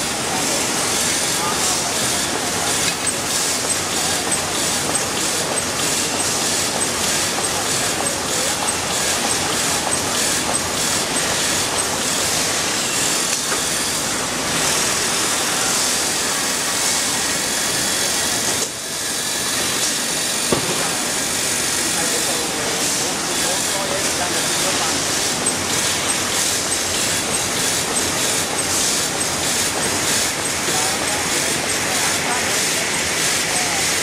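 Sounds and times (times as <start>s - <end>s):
machinery clatter: 0.0s - 16.1s, 18.0s - 34.0s
regular mechanical clacking: 1.0s - 14.1s, 19.8s - 33.8s.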